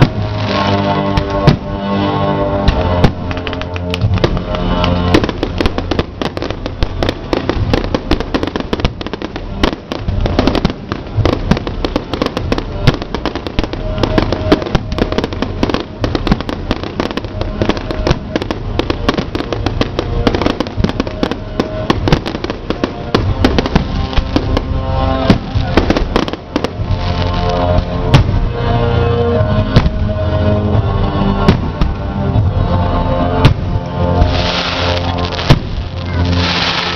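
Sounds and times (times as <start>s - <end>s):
fireworks bangs and crackles: 0.0s - 36.9s
music: 0.0s - 36.9s.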